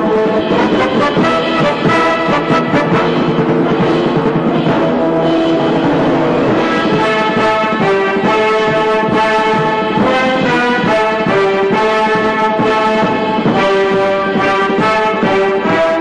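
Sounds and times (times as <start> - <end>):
orchestral music led by brass: 0.0 - 16.0.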